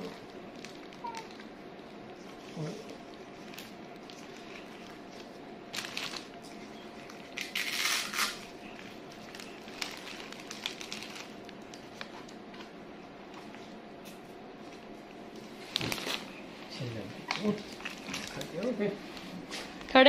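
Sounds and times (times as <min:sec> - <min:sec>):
shoes rustling and crinkling: 0:00.0 - 0:13.8, 0:14.6 - 0:20.0.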